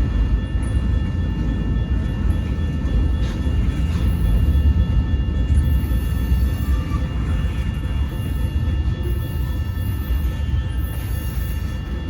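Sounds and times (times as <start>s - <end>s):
freight train rumble: 0.0s - 12.0s
whining tones: 0.0s - 12.0s.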